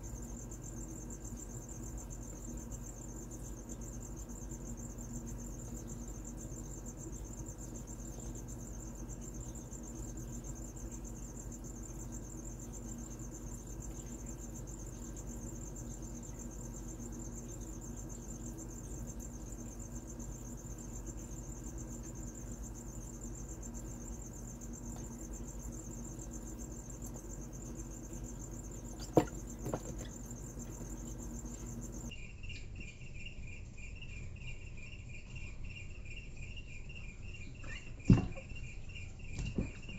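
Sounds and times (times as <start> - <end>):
crickets trilling: 0.0 - 39.9
low steady hum: 0.0 - 39.9.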